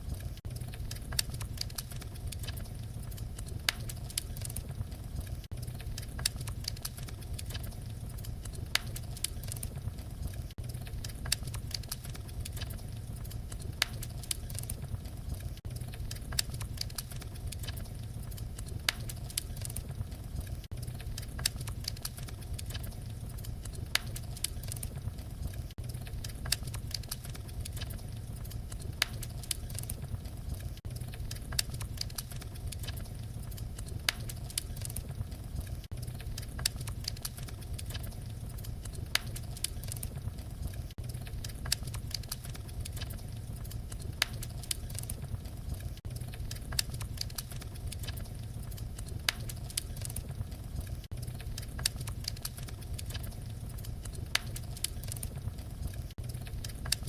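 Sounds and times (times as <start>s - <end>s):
fire pops: 0.0s - 57.0s
wood fire crackling: 0.0s - 57.0s.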